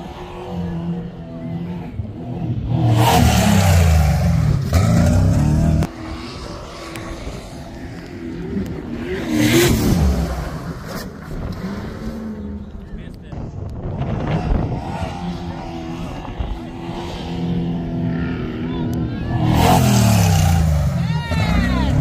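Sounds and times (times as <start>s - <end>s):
off-road vehicle engine revving: 0.0s - 13.0s, 13.8s - 22.0s.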